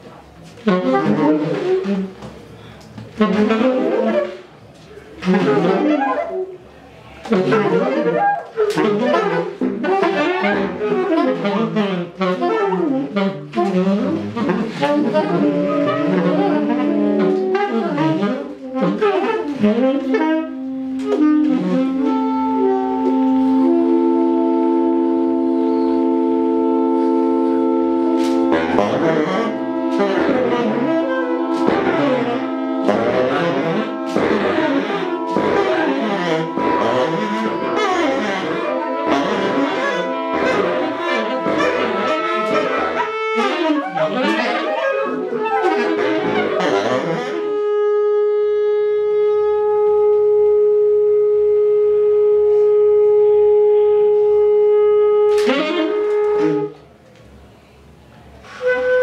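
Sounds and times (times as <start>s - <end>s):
wind-like instrument tones: 7.3s - 56.8s.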